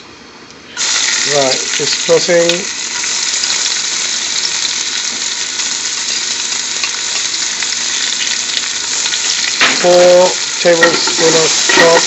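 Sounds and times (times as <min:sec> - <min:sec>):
garlic sizzling in oil: 0:00.8 - 0:12.0.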